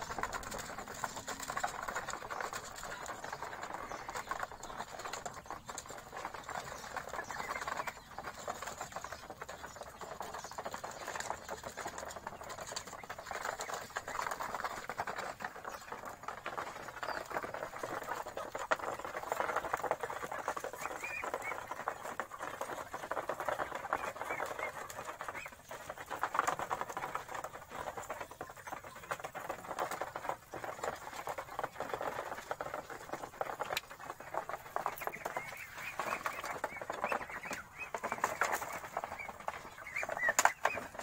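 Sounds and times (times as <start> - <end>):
ducks dabbling in grain: 0.0 - 41.0.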